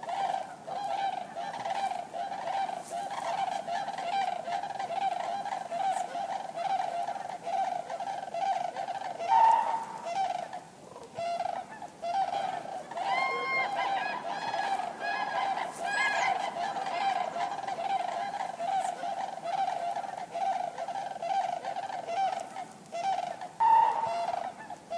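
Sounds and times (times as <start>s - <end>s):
cranes calling: 0.0s - 24.9s
higher crane calls: 0.0s - 24.9s.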